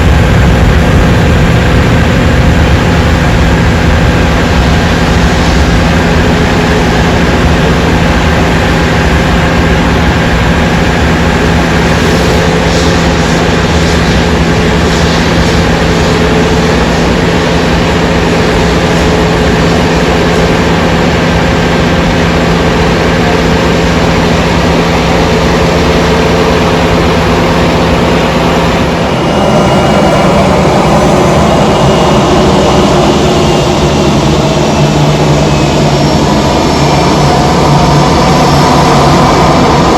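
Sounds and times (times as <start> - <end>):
aircraft engines roaring: 0.0 - 39.9.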